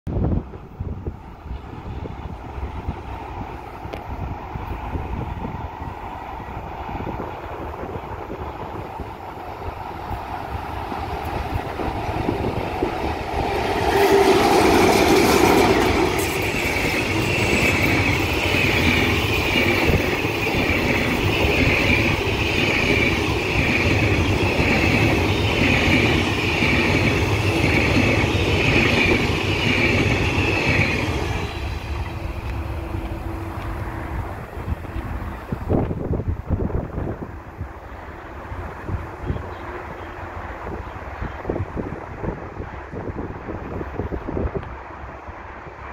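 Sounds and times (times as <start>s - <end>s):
passenger train passing: 0.1s - 45.9s
wheels rumbling on rails: 0.1s - 45.9s.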